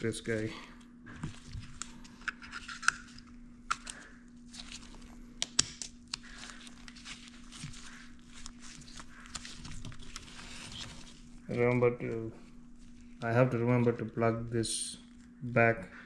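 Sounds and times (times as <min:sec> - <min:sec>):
gloves rustling: 0:00.2 - 0:15.4.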